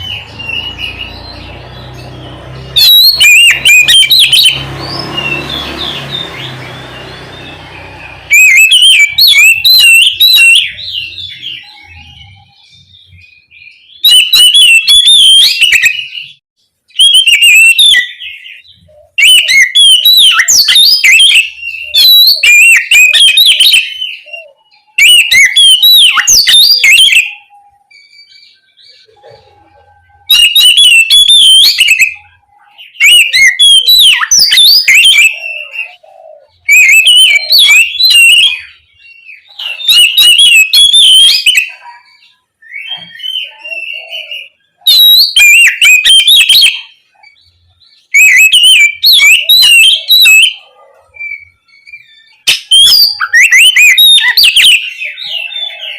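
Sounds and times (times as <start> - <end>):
songbird whistling and chattering: 0.0 - 55.9.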